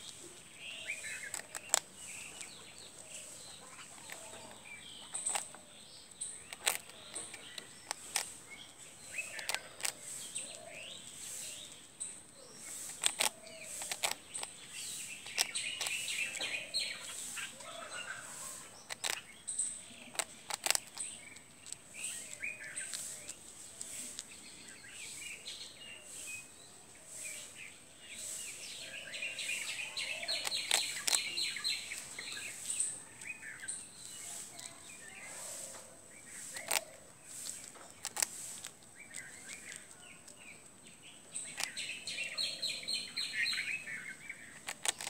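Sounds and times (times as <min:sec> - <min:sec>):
squirrel crunching toast: 0:00.0 - 0:11.8, 0:12.6 - 0:24.8, 0:29.5 - 0:42.9, 0:43.6 - 0:45.0
small birds chirping: 0:00.0 - 0:45.0.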